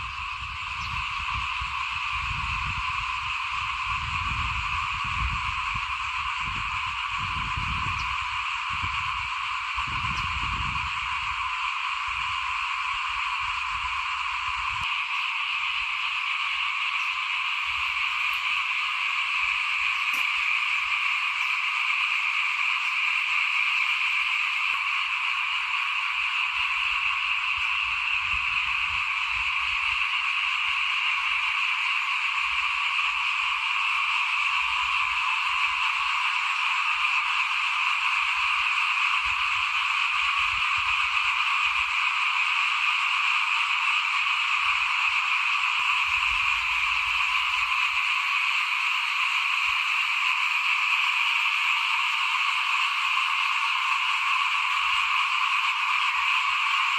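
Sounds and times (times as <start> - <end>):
frogs chorus: 0.0 - 56.9.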